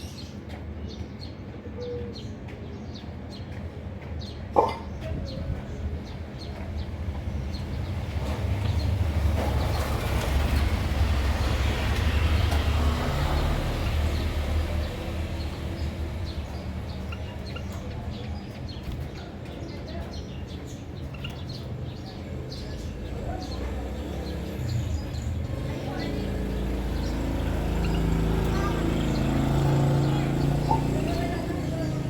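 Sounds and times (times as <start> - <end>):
cage birds chirping: 0.0 - 32.0.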